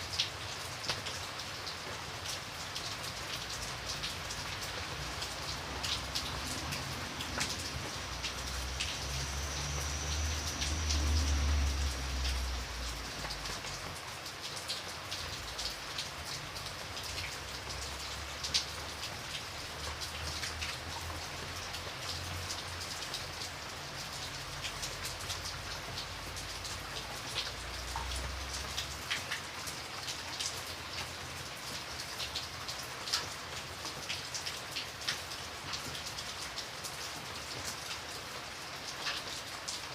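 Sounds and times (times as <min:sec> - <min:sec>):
raindrops ticking: 0:00.0 - 0:39.9
steady rain hiss: 0:00.0 - 0:39.9.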